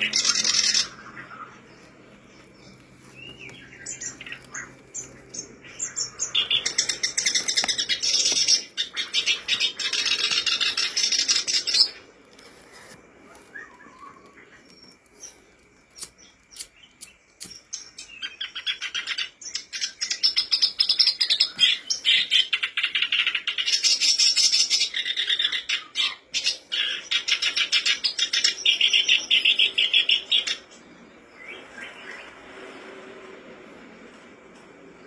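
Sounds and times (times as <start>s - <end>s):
warbler chattering song: 0.0s - 12.2s, 13.2s - 32.9s.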